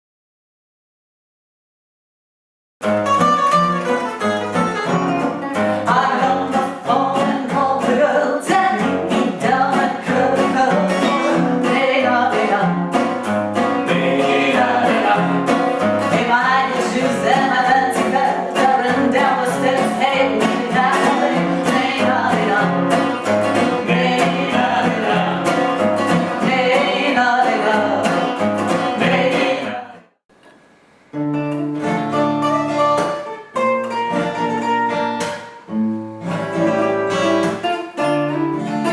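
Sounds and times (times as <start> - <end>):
lively music with picked notes: 2.8 - 29.6, 31.2 - 38.9.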